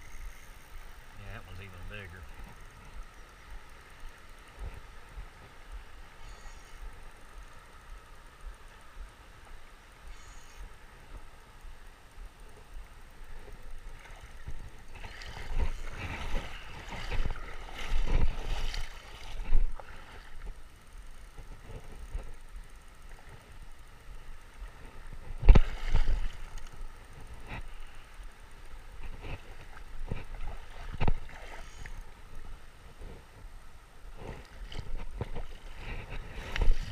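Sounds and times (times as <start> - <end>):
river water gurgling: 0.0 - 36.9.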